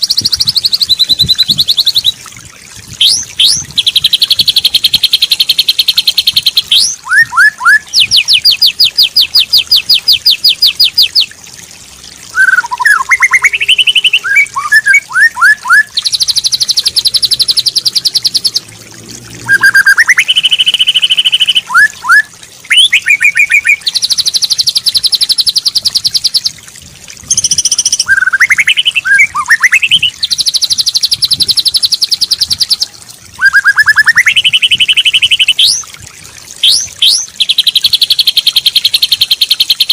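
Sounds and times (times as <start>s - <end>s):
songbird buzzy trills: 0.0s - 2.2s, 3.0s - 11.4s, 12.3s - 18.8s, 19.4s - 26.6s, 27.2s - 35.9s, 36.6s - 39.9s
bird whistled phrases: 3.0s - 11.2s, 12.3s - 18.6s, 19.4s - 26.0s, 27.3s - 35.8s, 36.6s - 39.9s.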